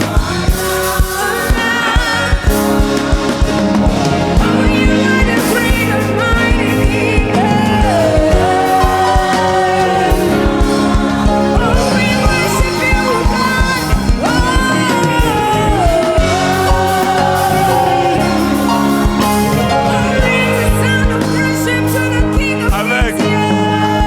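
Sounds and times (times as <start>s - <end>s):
gospel band playing: 0.0s - 24.0s
lead voice singing: 0.0s - 24.0s.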